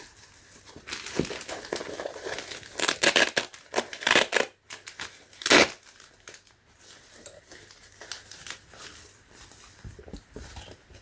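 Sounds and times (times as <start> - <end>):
cap rustling and crinkling: 0.0 - 11.0.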